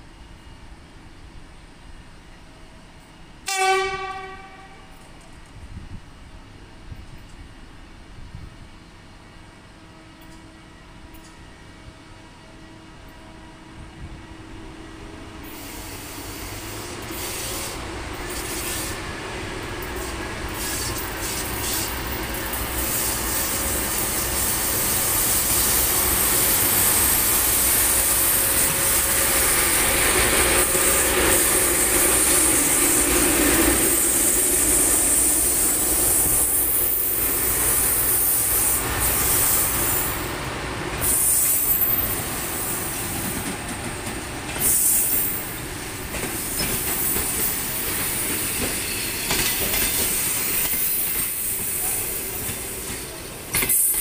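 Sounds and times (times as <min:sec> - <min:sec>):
passing train on rails: 0:00.0 - 0:54.0.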